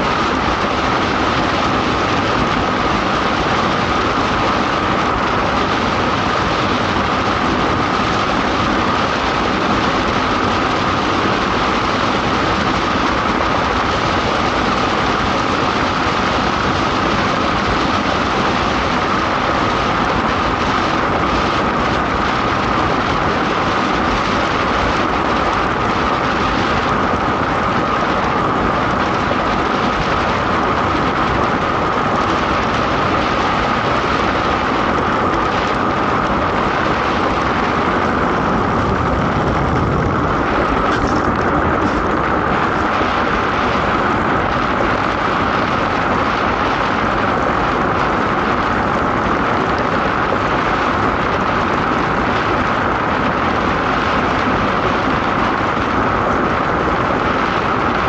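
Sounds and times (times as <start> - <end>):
steady high hum: 0.0 - 58.0
wind: 0.0 - 58.0.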